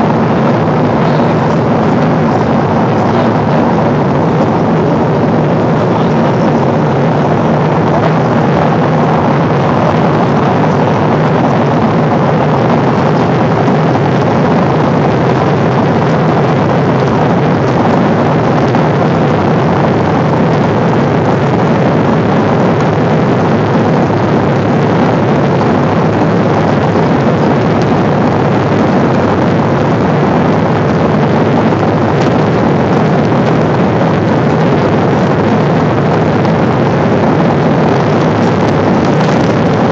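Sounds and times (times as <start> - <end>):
airliner cabin engine and airflow rush: 0.0 - 39.9
low hum: 0.0 - 39.9.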